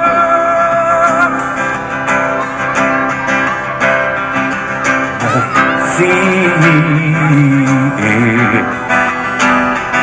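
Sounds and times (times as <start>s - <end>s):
live band playing: 0.0s - 10.0s
strummed guitar: 0.0s - 10.0s.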